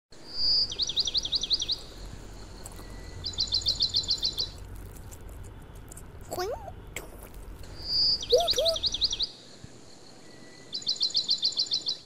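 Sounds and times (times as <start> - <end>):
bird chirping: 0.2 - 12.0
faint low hum: 0.2 - 12.0.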